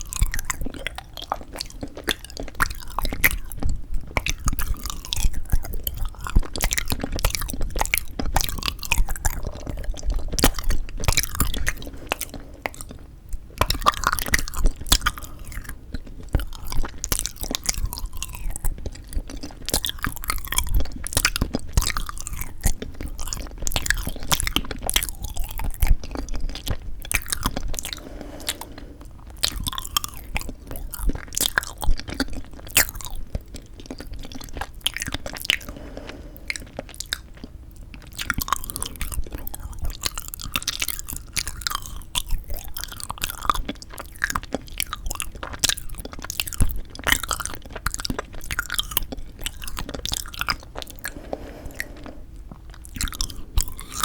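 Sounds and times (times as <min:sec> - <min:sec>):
chewing with wet mouth clicks: 0:00.0 - 0:54.0.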